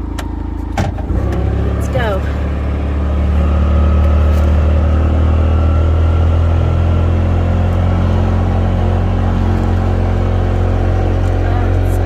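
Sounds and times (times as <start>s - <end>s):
utility vehicle engine humming: 0.0s - 12.0s.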